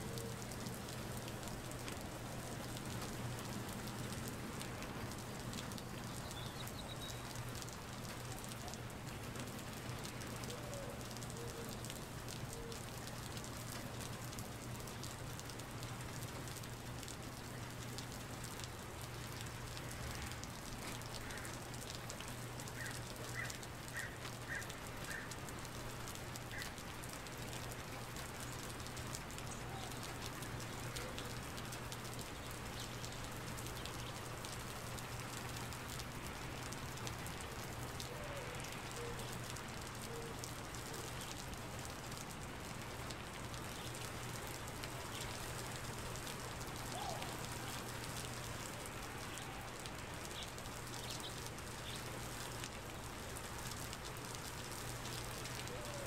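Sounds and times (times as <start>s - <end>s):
rain splashing into standing water: 0.0s - 56.0s.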